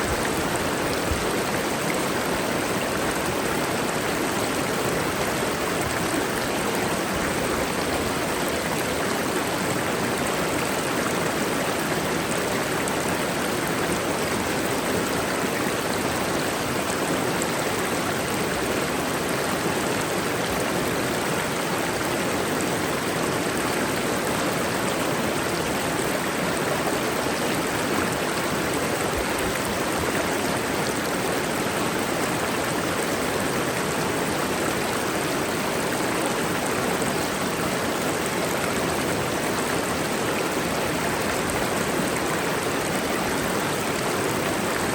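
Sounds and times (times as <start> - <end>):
waterfall and stream rushing: 0.0 - 44.9.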